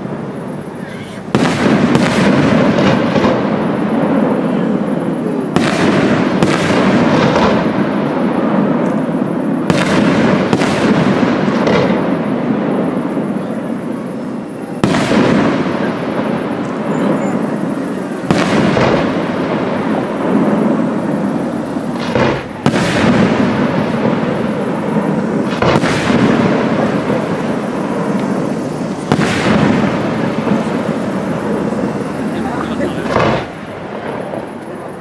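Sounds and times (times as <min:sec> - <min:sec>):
firework shells bursting: 0:00.0 - 0:35.0.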